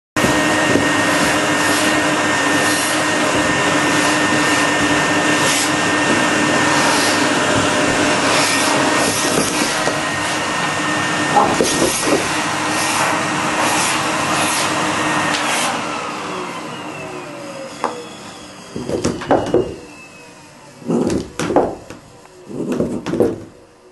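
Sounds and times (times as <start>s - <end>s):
vacuum cleaner running: 0.2s - 23.9s.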